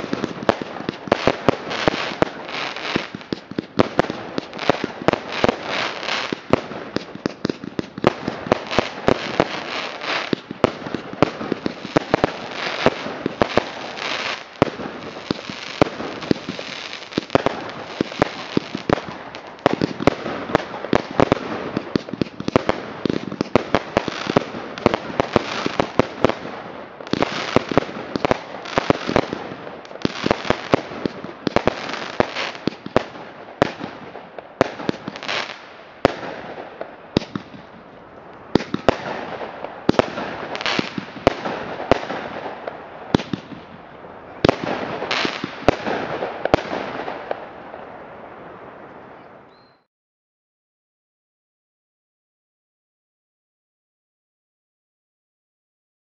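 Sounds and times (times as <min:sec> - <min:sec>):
fireworks cracking and banging: 0:00.0 - 0:48.4.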